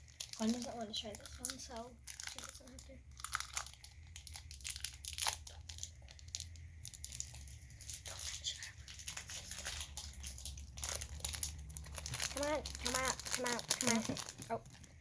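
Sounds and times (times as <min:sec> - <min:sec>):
plastic wrapper crinkling and tearing: 0:00.0 - 0:15.0.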